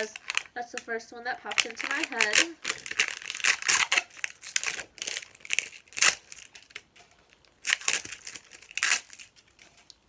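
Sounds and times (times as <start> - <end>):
plastic wrapping crinkling and tearing: 0.0 - 10.0.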